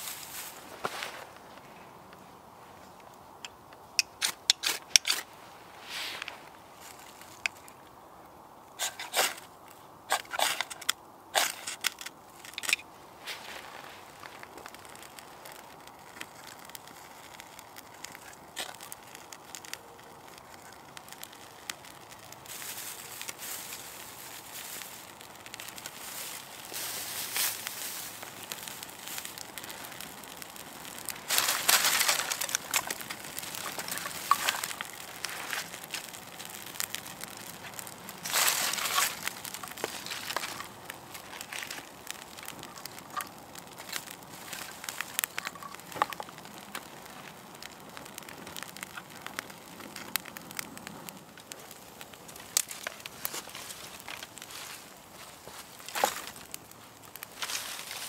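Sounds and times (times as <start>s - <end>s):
campfire crackling and popping: 0.0s - 58.0s
twigs crunching and snapping: 2.8s - 5.4s, 6.1s - 7.9s, 8.8s - 58.0s.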